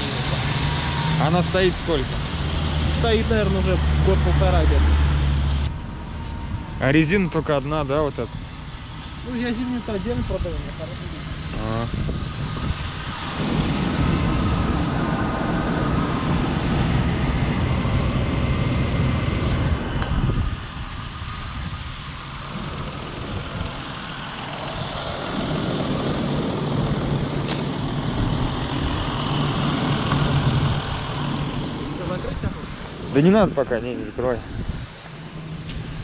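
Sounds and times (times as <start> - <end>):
car engine idling rough: 0.0 - 36.0.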